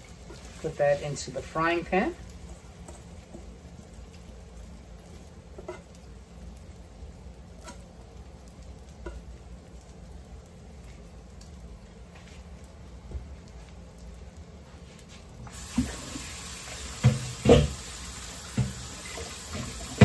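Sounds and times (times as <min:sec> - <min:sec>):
egg mixture sizzling in frying pan: 0:00.0 - 0:20.0.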